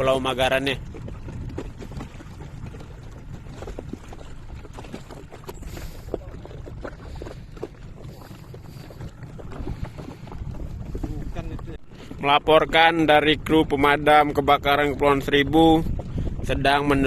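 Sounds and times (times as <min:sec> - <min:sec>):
boat engine rumble: 0:00.0 - 0:17.0
water splashes: 0:00.0 - 0:17.0
wind on microphone: 0:00.0 - 0:17.0.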